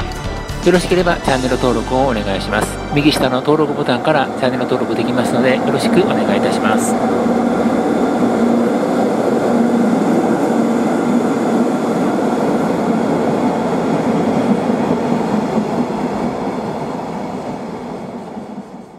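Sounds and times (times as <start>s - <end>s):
freight train rolling past: 0.0s - 18.9s.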